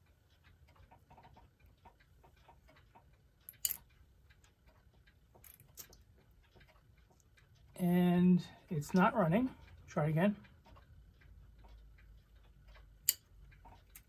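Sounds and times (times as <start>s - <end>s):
clock gears clicking: 0.0s - 14.0s.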